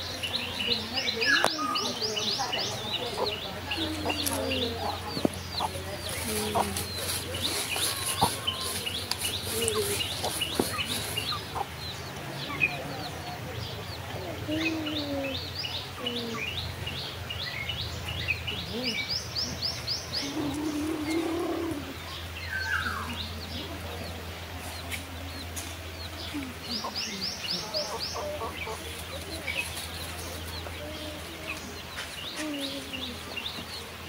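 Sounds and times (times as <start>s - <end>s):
birds chirping: 0.0s - 34.0s
chickens clucking: 0.0s - 34.0s.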